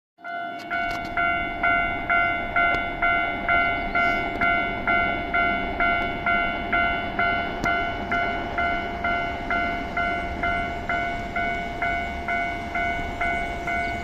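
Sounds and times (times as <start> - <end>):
level crossing warning bell: 0.2 - 14.0.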